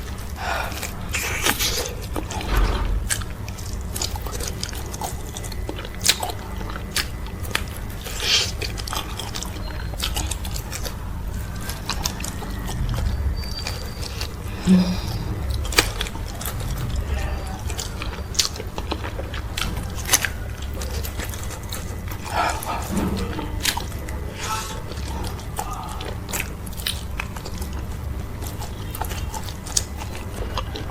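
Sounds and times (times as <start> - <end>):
chewing and biting food: 0.0 - 30.9
steady low hum: 0.0 - 30.9.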